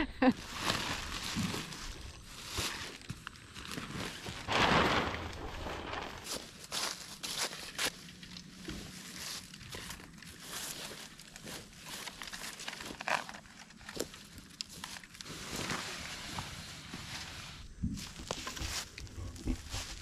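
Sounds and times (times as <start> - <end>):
tent fabric rustling: 0.3 - 8.0, 8.9 - 18.9.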